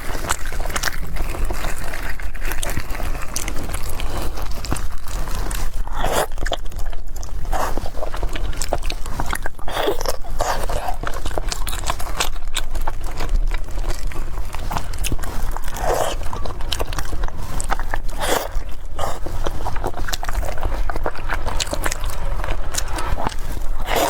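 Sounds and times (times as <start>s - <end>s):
chewing and biting: 0.0s - 24.0s
food crunches: 0.0s - 24.0s
mouth clicks: 0.7s - 24.0s.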